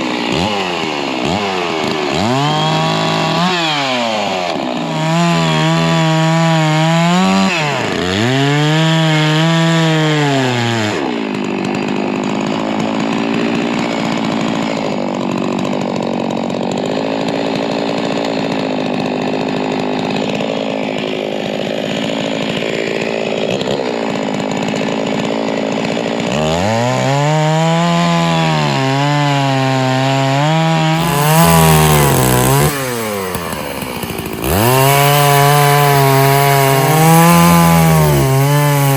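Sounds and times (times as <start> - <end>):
chainsaw cutting log: 0.0 - 38.9
chainsaw revving: 0.0 - 38.9.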